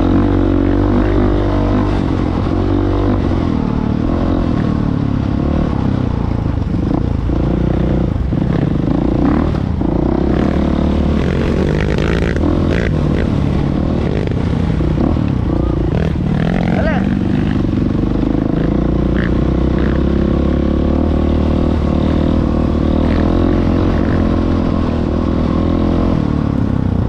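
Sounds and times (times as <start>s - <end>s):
dirt bike engine revving: 0.0s - 5.9s, 6.7s - 26.7s.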